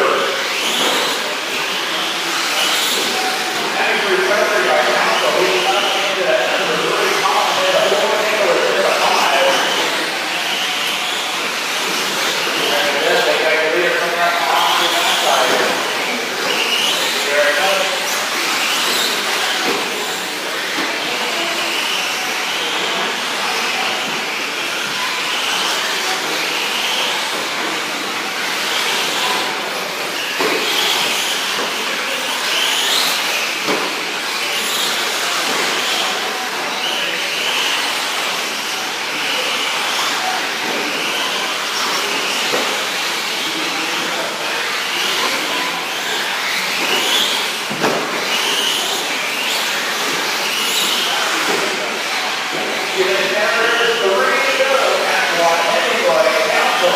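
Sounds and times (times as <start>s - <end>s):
rc truck motors whining: 0.2s - 56.9s.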